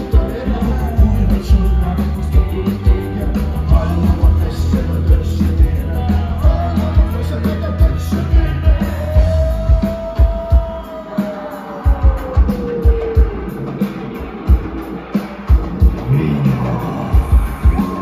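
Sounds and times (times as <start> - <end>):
man singing: 0.0 - 13.8, 16.0 - 18.0
live rock band playing: 0.0 - 18.0.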